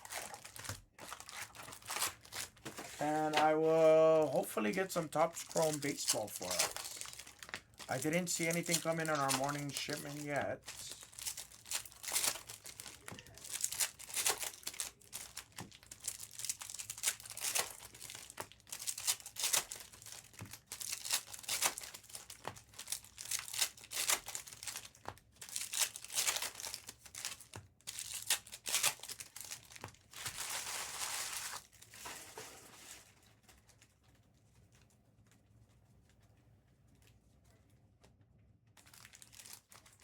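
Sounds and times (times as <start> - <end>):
plastic wrapping crinkling: 0.0 - 37.7, 38.8 - 40.0.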